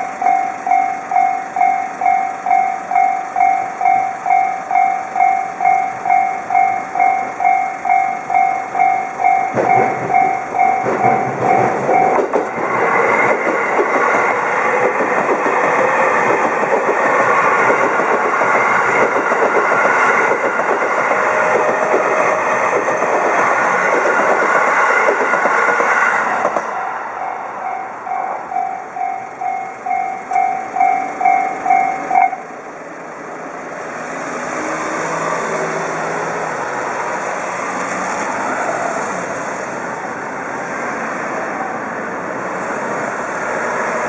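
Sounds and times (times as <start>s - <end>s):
level-crossing warning bell: 0.0s - 44.0s
train clattering past: 0.0s - 44.0s.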